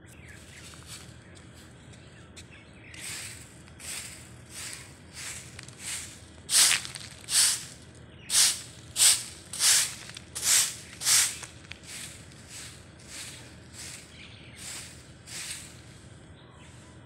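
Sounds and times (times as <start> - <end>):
broom sweeping asphalt: 0.4 - 2.0, 2.8 - 17.0.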